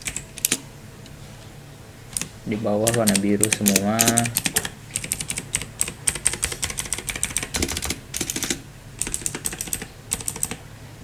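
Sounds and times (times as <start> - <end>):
mechanical keyboard clicks: 0.0 - 0.6, 2.2 - 10.6.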